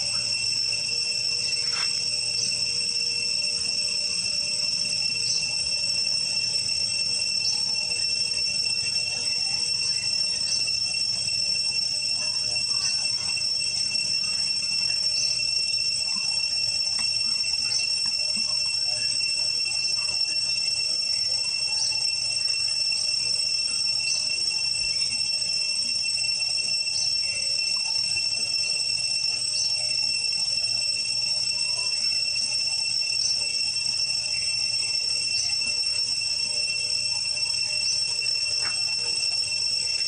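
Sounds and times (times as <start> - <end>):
high-pitched insect chorus: 0.0 - 40.0.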